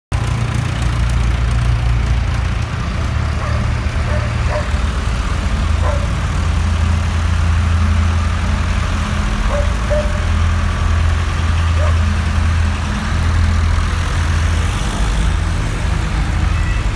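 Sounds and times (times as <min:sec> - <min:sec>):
tractor diesel engines passing: 0:00.1 - 0:16.9.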